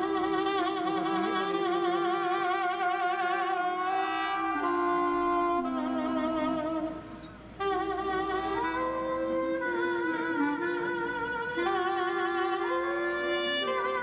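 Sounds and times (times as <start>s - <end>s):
reed woodwind melody: 0.0s - 14.0s.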